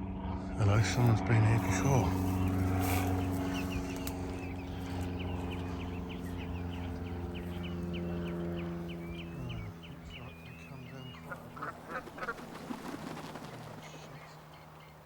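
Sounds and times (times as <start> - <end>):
low engine drone: 0.0 - 15.0
birds chirping: 0.6 - 15.0.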